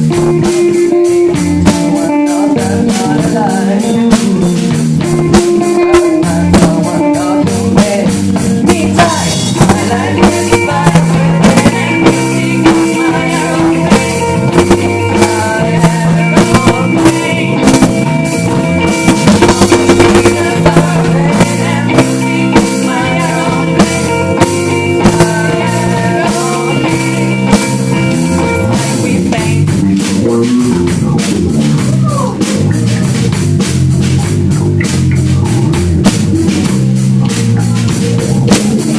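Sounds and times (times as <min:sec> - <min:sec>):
bass line: 0:00.0 - 0:38.9
drum kit steady beat: 0:00.0 - 0:38.9
electric guitar: 0:00.0 - 0:38.9.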